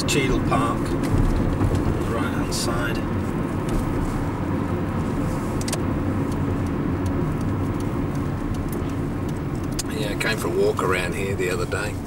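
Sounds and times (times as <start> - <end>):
car interior driving rumble: 0.0 - 12.0.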